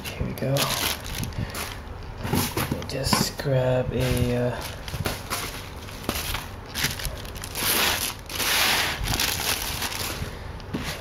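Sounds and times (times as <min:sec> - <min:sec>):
plastic wrap crinkling: 0:00.0 - 0:03.4, 0:04.0 - 0:11.0.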